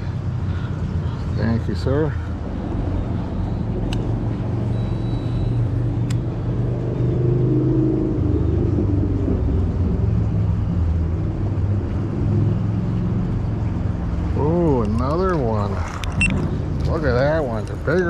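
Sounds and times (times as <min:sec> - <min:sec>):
low engine drone: 0:00.0 - 0:18.0.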